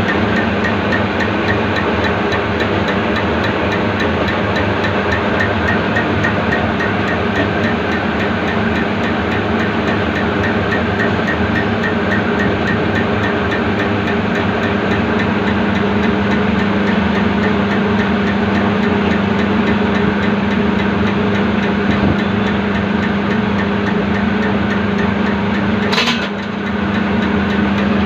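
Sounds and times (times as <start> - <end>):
pump test bench humming and ticking: 0.0 - 28.0.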